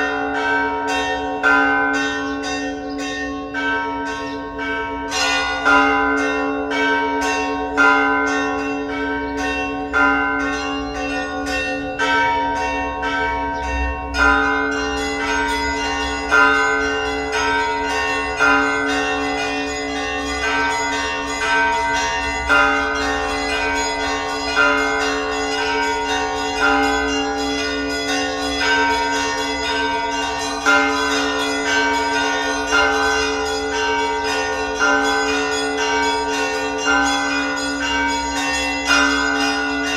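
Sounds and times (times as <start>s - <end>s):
heavy church bell strokes: 0.0s - 39.9s
small bells chiming: 0.0s - 39.9s.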